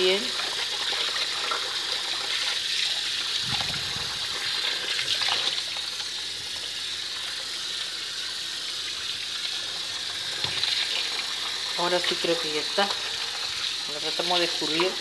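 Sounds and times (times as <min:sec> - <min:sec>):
tap water running into strainer: 0:00.0 - 0:15.0.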